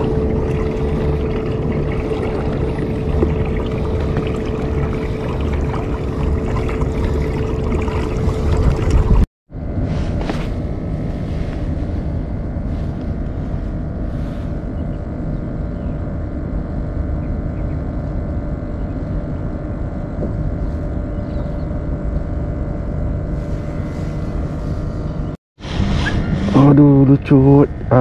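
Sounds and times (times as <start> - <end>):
low rumble: 0.0 - 28.0
steady mechanical drone: 0.0 - 28.0.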